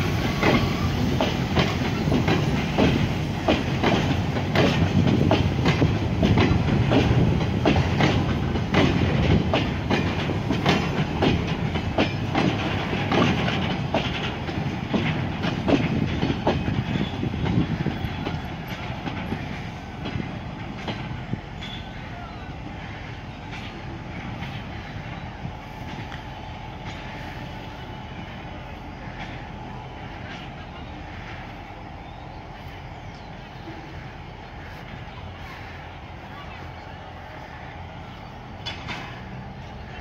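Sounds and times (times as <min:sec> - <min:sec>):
train wheels clicking over rail joints: 0:00.0 - 0:40.0.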